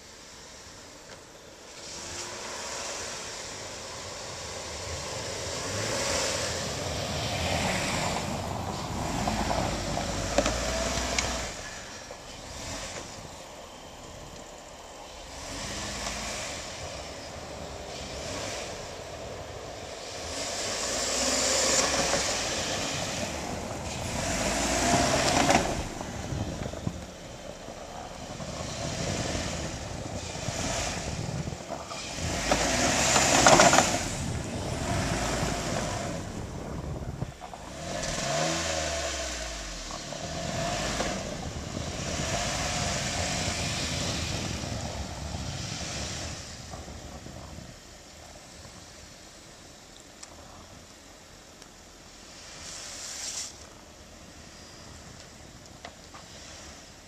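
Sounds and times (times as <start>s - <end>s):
tires churning in snow: 0.0s - 57.0s
car engine revving: 1.6s - 47.7s.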